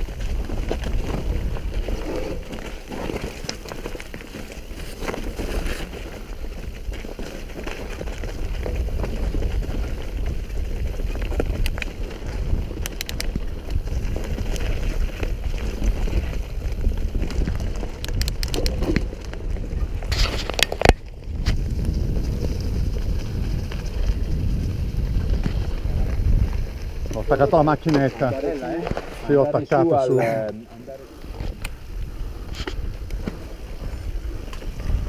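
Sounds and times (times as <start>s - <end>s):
wind on microphone: 0.0s - 4.0s, 7.8s - 29.4s, 31.0s - 35.0s
bike rattling: 0.0s - 35.0s
tyres rumbling on trail: 0.0s - 35.0s.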